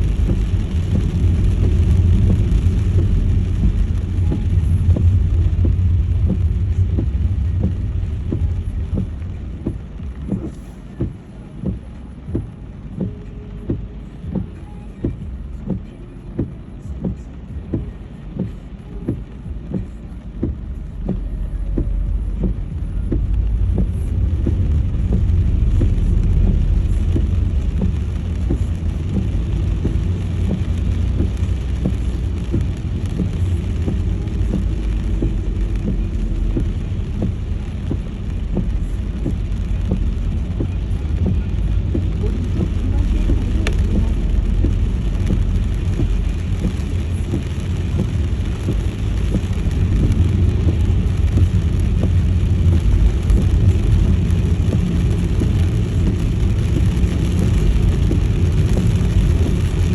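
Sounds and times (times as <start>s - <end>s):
car engine and road rumble: 0.0s - 59.9s
regular ticking: 0.0s - 59.9s.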